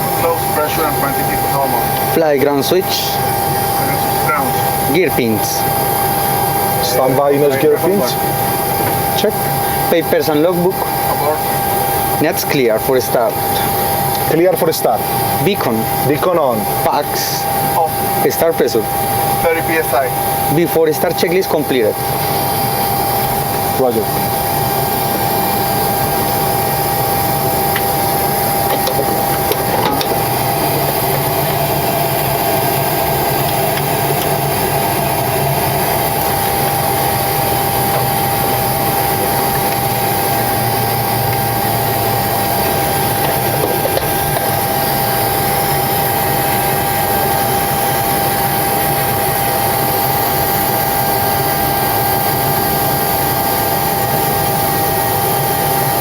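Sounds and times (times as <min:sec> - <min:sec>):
aircraft cockpit hum: 0:00.0 - 0:56.0
constant high whine: 0:00.0 - 0:56.0.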